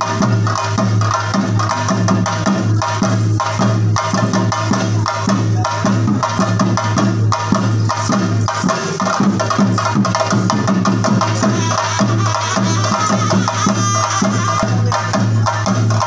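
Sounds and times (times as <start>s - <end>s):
fast drumming with sticks: 0.0s - 16.0s.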